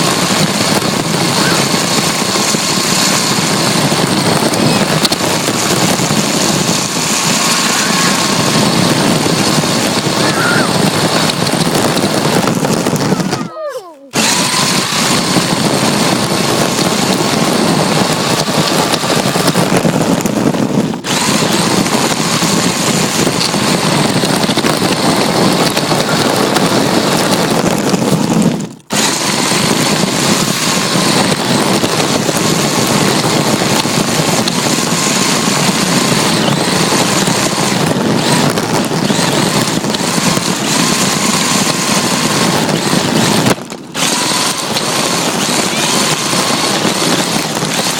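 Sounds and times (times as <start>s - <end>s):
rc car motor and tyres rushing: 0.0s - 47.9s.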